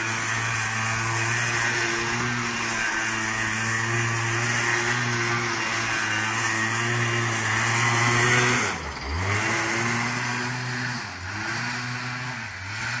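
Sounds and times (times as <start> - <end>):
two-stroke engine revving high: 0.0 - 13.0.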